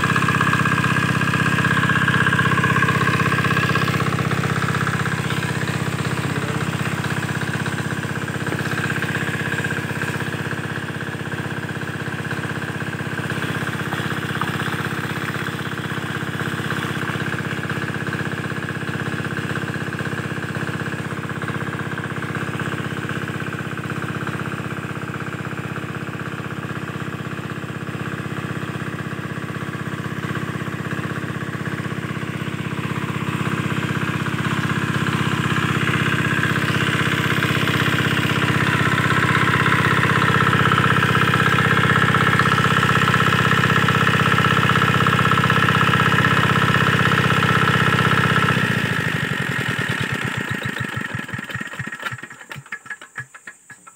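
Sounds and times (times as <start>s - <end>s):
diesel engine knocking: 0.0s - 53.9s.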